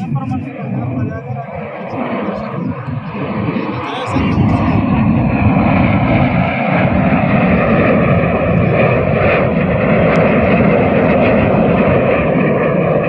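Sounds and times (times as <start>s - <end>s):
aircraft flying overhead: 0.0s - 13.0s.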